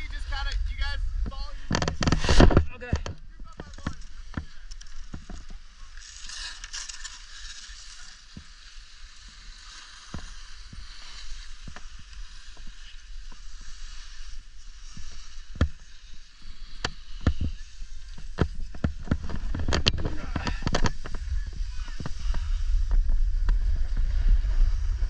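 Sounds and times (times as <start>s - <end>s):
wind rumble on microphone: 0.0s - 5.6s, 10.1s - 25.0s
skis scraping over snow: 0.0s - 25.0s.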